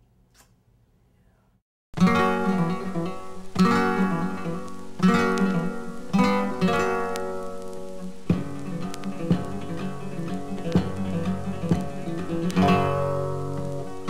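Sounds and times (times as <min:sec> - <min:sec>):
acoustic guitar chords strummed: 0:02.0 - 0:14.0.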